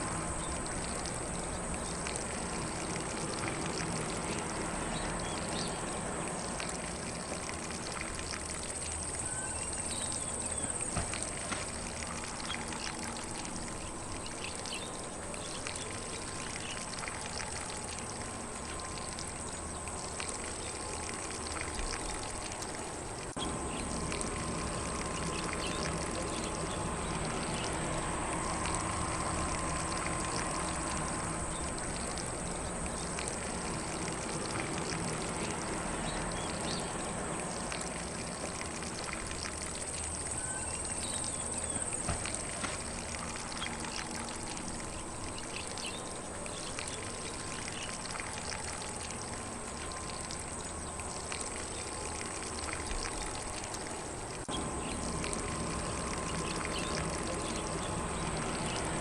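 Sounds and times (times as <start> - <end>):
faint birds: 0.0 - 59.0
lawn sprinkler spraying water: 0.0 - 59.0.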